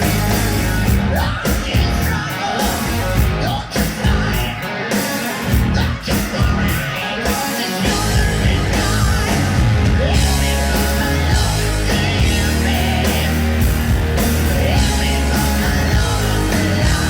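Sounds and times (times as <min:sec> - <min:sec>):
bass guitar: 0:00.0 - 0:17.0
distorted electric guitars: 0:00.0 - 0:17.0
drum kit: 0:00.0 - 0:17.0.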